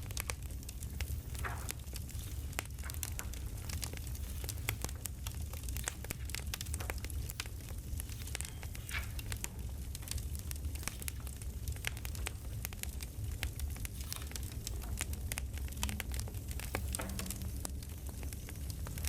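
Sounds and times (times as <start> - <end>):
campfire crackling: 0.0 - 19.0
low rumble: 0.0 - 19.0.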